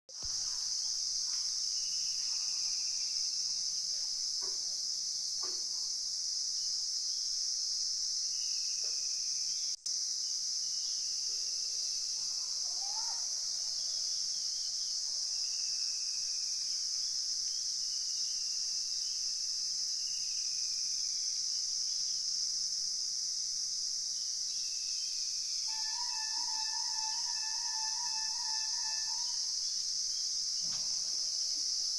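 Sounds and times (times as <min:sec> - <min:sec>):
high-pitched insect chorus: 0:00.1 - 0:31.9.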